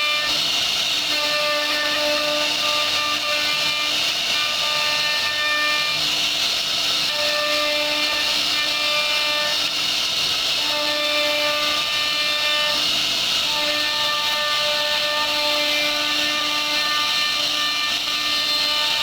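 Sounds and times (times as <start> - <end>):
router spindle whine: 0.0 - 19.0
wood cutting hiss: 0.0 - 19.0.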